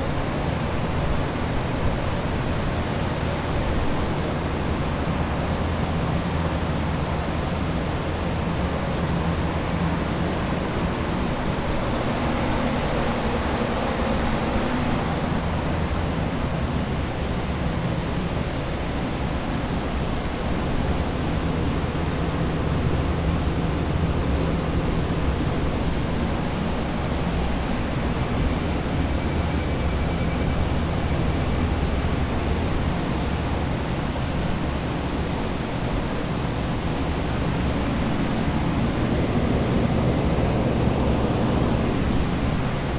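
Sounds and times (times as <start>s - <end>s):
air blowers whooshing with hum: 0.0s - 28.5s, 32.4s - 42.9s.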